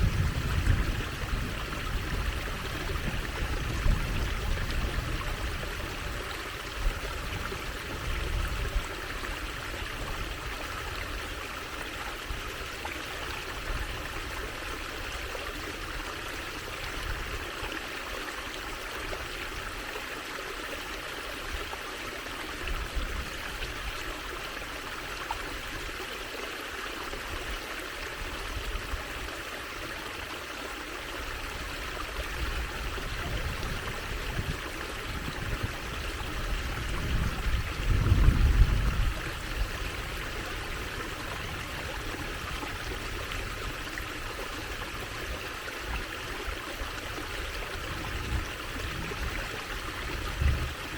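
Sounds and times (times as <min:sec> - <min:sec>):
water trickling and flowing: 0:00.0 - 0:50.9.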